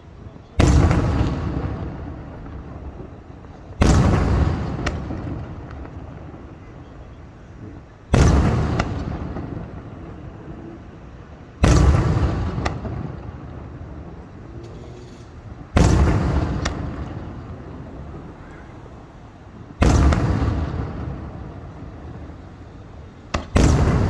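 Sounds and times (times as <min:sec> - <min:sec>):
firework shells booming: 0:00.5 - 0:24.0
sharp firework crack: 0:00.6 - 0:06.8, 0:08.1 - 0:10.6, 0:11.6 - 0:24.0.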